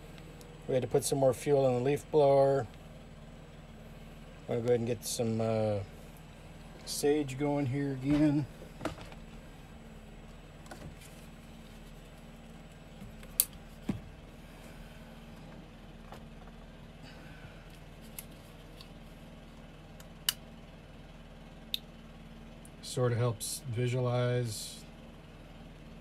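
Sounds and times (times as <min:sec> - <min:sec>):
muffled leaf blower hum: 0:00.0 - 0:26.0.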